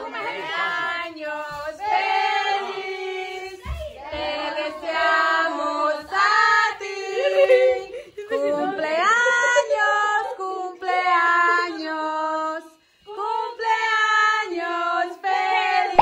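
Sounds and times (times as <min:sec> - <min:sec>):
group singing with children: 0:00.0 - 0:16.0.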